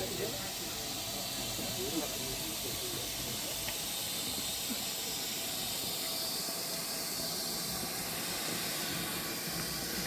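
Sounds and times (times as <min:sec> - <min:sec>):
steam hissing from locomotive: 0:00.0 - 0:10.0.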